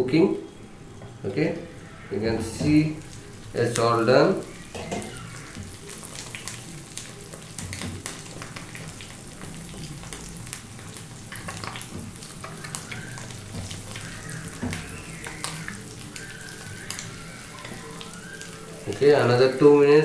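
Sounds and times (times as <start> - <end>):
egg sizzling in butter: 1.8 - 20.0
crackles and pops of frying: 2.4 - 20.0.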